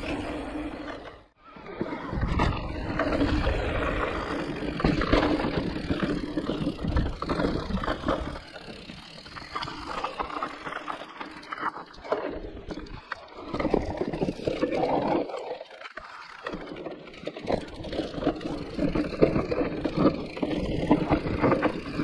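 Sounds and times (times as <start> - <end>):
bike tyres rolling and rattling: 0.0 - 22.0.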